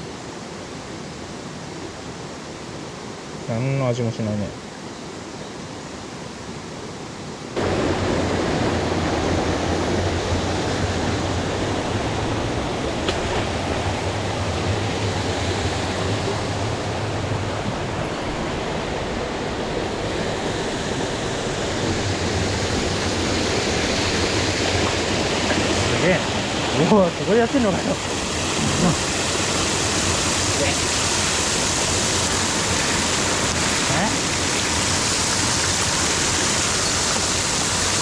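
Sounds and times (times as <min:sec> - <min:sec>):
rushing stream water: 0:00.0 - 0:38.0.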